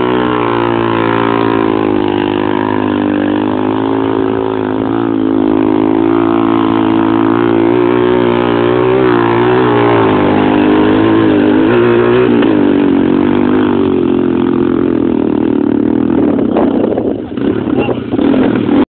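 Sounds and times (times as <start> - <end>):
quad engine revving: 0.0 - 18.9.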